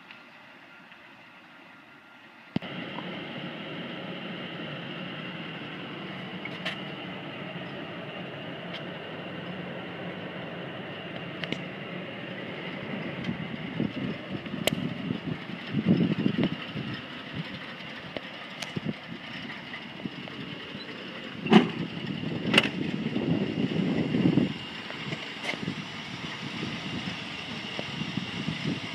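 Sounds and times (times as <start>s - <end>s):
car engine rumbling: 2.6s - 28.9s.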